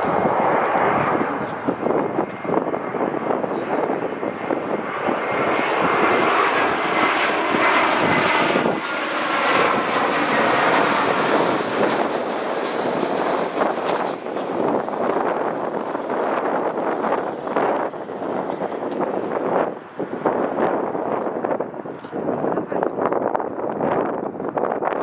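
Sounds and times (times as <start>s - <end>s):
jet airliner engines roaring: 0.0s - 25.0s.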